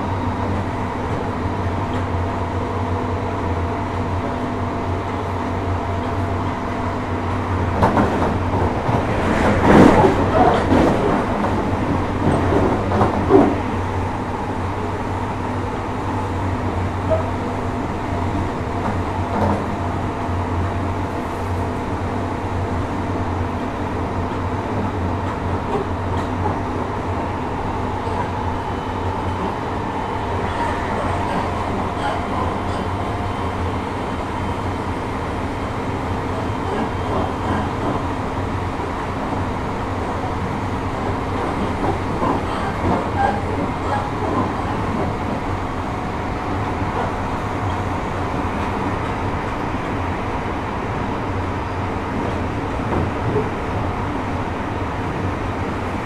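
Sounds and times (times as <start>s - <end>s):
train interior rumble: 0.0s - 56.0s.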